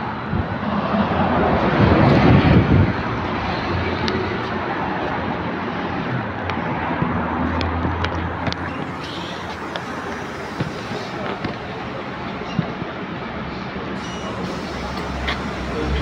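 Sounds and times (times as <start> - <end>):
street noise: 0.0 - 16.0
trolleybus humming: 0.0 - 16.0.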